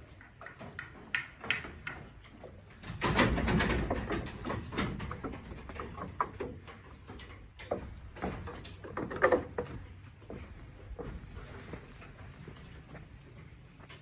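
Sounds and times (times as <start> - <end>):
goats knocking and shuffling: 0.0 - 14.0.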